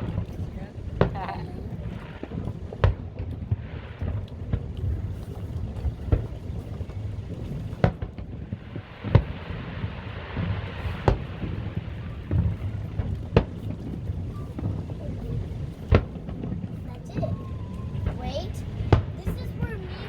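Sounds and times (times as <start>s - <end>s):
fireworks bangs: 0.0s - 20.0s
low rumble: 0.0s - 20.0s.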